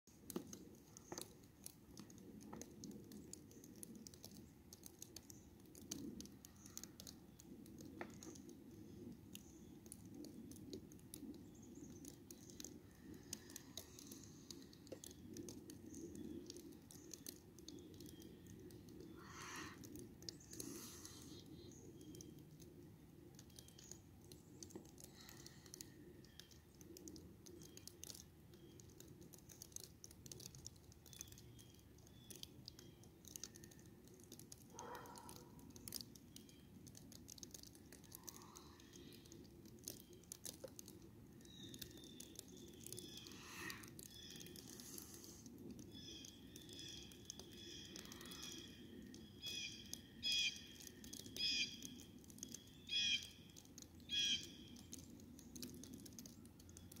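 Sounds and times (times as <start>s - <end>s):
soft ticks and patter: 0.0s - 57.0s.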